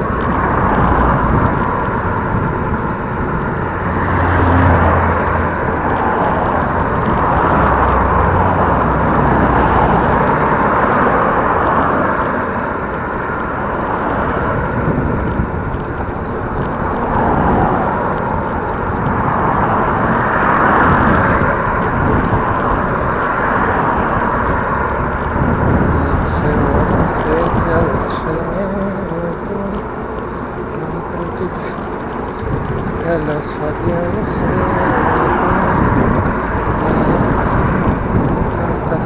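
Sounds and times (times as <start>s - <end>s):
bicycle tyre noise on road: 0.0s - 39.0s
wind rushing over microphone: 0.0s - 39.0s.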